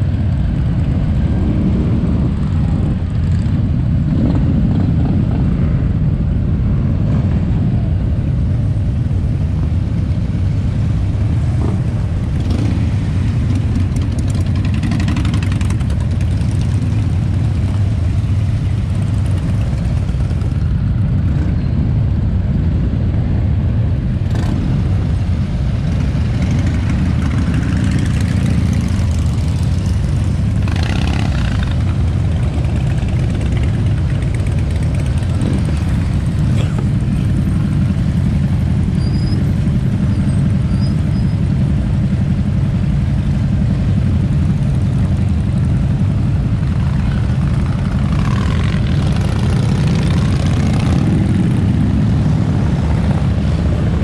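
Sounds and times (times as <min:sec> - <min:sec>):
motorcycles passing at low speed: 0:00.0 - 0:54.0.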